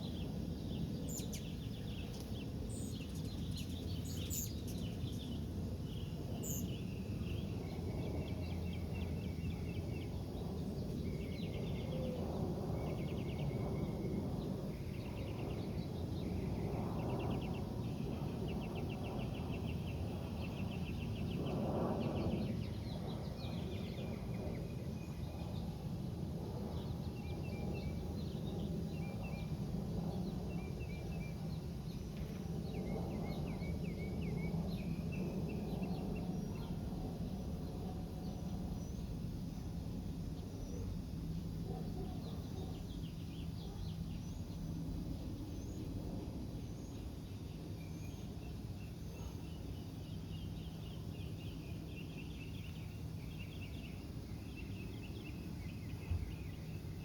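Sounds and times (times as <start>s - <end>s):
small birds chirping and trilling: 0.0s - 25.8s, 26.6s - 57.0s.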